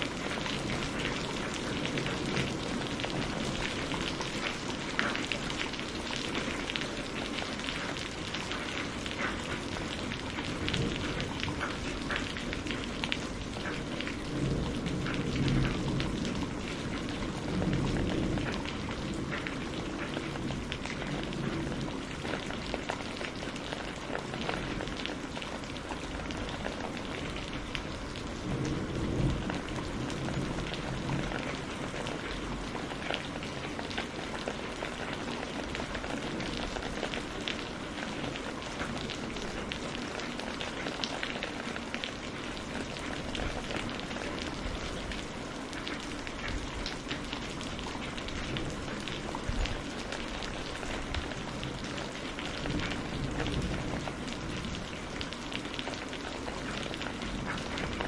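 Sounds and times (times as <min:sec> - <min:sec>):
low rumble of thunder: 0:00.0 - 0:58.0
raindrops ticking on a surface: 0:00.0 - 0:58.0.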